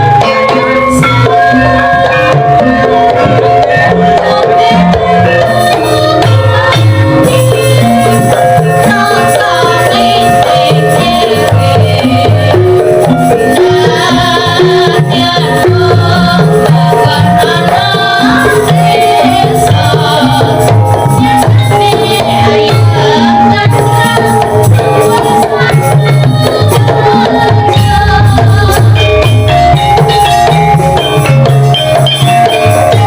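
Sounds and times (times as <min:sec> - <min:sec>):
hand-drum strokes: 0:00.0 - 0:33.0
ringing metallophone notes: 0:00.0 - 0:33.0.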